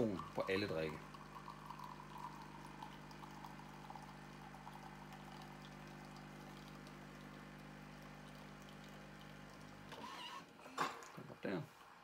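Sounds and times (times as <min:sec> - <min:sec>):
coffee machine pump humming: 0:00.0 - 0:12.0.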